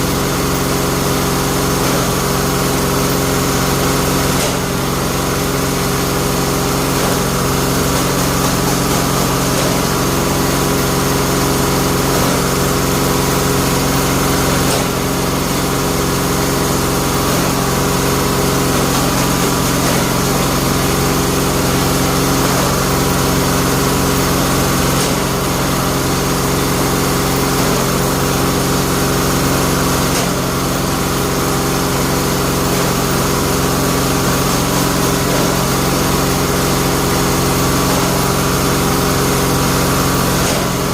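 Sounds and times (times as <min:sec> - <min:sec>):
machine motor humming: 0:00.0 - 0:40.9.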